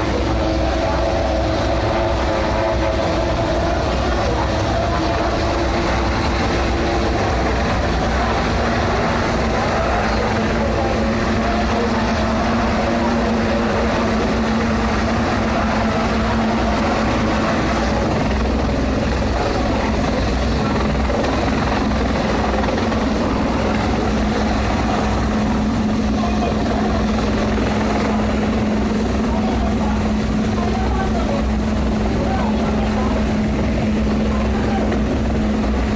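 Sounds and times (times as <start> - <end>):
helicopter drone: 0.0 - 35.9.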